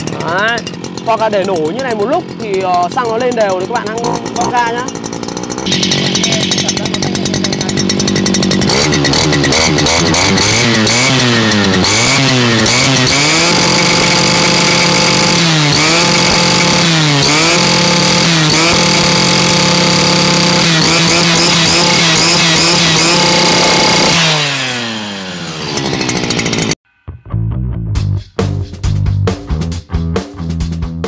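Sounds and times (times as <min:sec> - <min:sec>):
brush cutter engine revving: 0:00.0 - 0:26.8.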